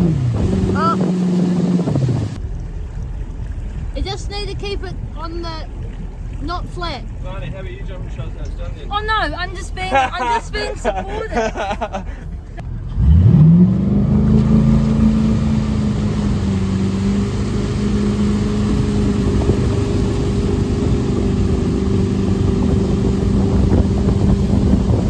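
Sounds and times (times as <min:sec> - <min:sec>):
motorboat engine revving: 0:00.0 - 0:25.0
water rushing: 0:00.0 - 0:25.0.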